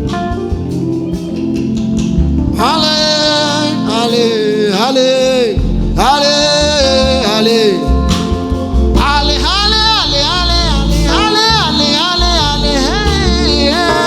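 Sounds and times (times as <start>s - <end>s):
band backing: 0.0s - 14.0s
trumpet playing gospel melody: 0.0s - 14.0s.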